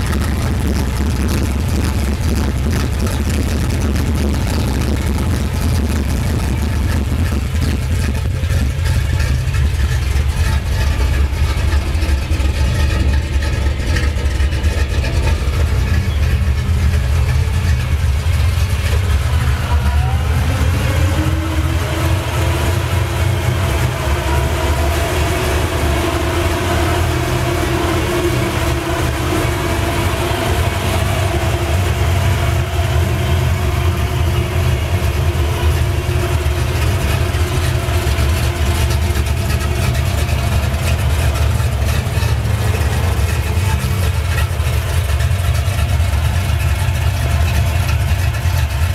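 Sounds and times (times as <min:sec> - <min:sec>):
car engine idling roughly: 0:00.0 - 0:48.9
high steady whine: 0:00.0 - 0:48.9.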